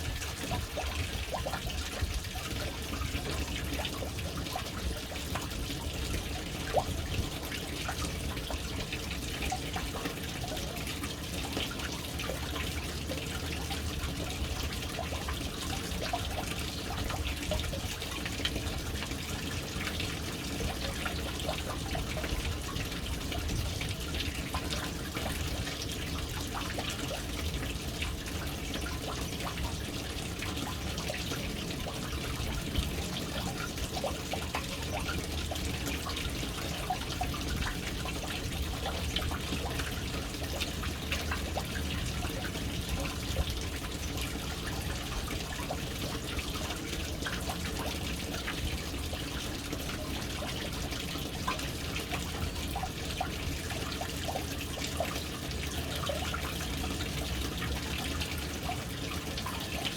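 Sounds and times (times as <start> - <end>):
water splashing into a tank: 0.0 - 59.9.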